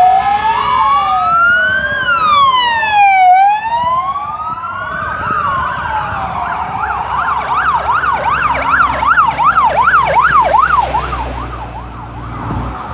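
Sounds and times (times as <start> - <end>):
fire engine siren wailing and yelping: 0.0 - 12.9.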